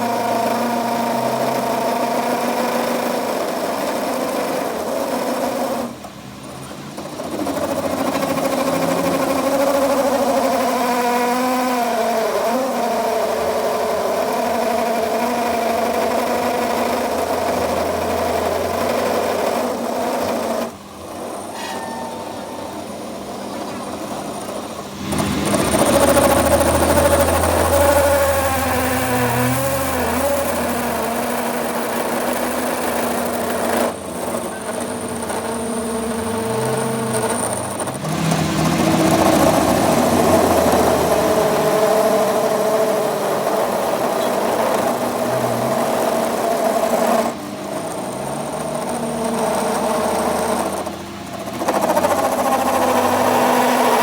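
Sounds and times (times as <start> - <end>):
workshop machine motor running: 0.0 - 54.0.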